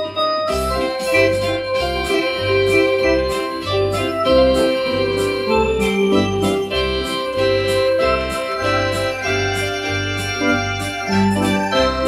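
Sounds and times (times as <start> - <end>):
home organ duet: 0.0 - 12.0.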